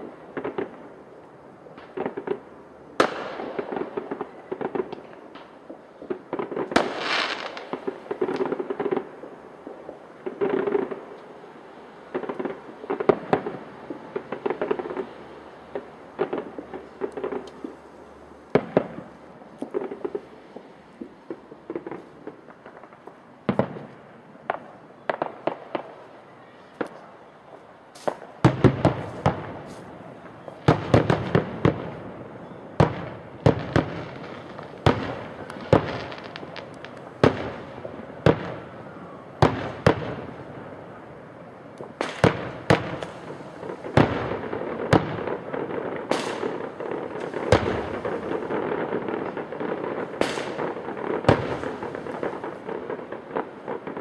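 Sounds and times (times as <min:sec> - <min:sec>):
continuous noise: 0:00.0 - 0:54.0
fireworks bangs: 0:00.0 - 0:54.0.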